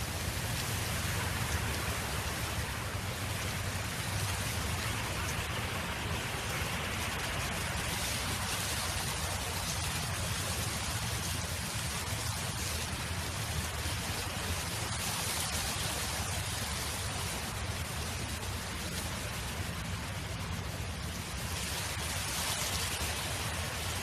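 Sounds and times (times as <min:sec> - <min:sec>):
wind blowing across a field: 0:00.0 - 0:24.0.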